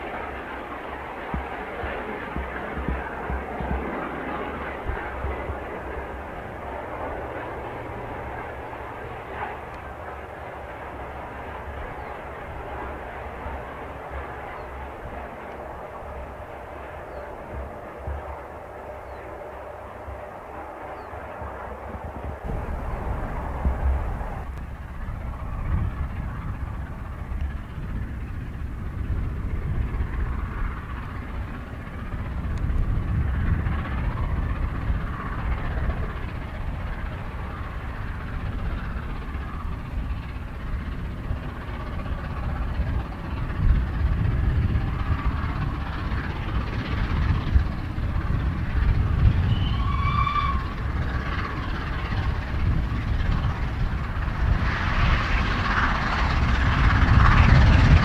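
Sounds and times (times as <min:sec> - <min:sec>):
train rumble: 0:00.0 - 0:58.0
steam locomotive exhaust: 0:04.6 - 0:58.0.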